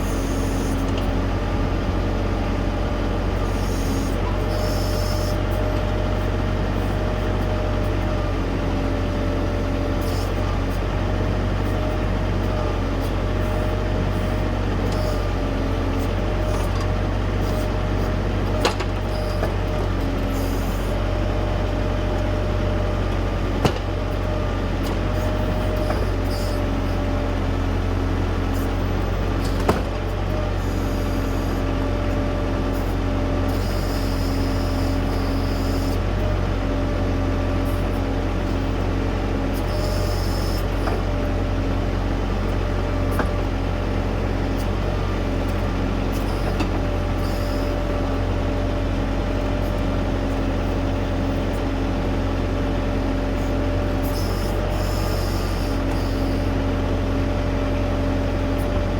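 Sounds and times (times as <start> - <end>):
hydraulic whine: 0.0 - 58.9
tractor diesel engine running: 0.0 - 58.9.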